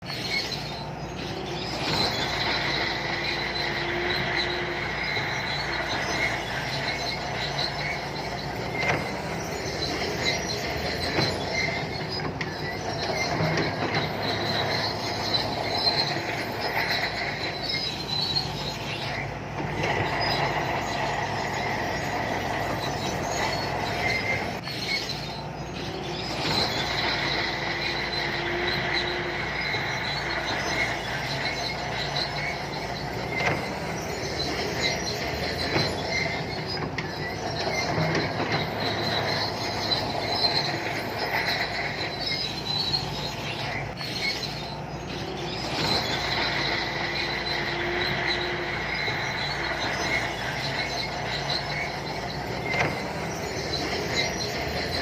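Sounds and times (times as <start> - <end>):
bulldozer diesel engine running: 0.0 - 55.0
steel tracks squealing: 0.0 - 55.0.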